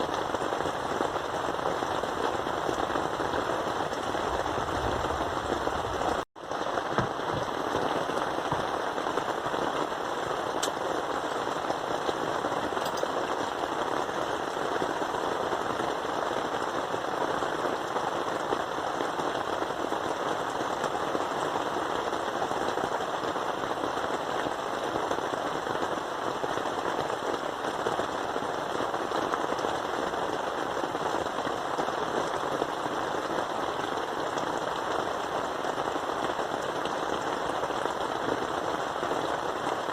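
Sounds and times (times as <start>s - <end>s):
heavy rain hitting a surface: 0.0s - 39.9s.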